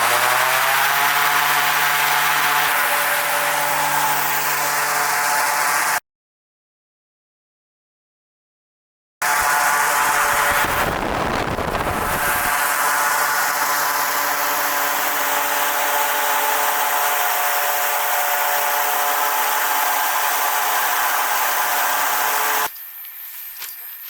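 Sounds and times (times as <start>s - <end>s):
electric blower running: 0.0s - 6.0s, 9.2s - 24.0s.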